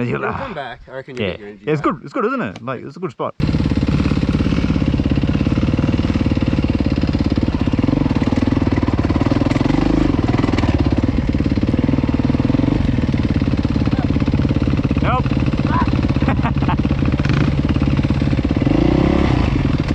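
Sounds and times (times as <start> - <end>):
dirt bike engine running: 3.4 - 19.9.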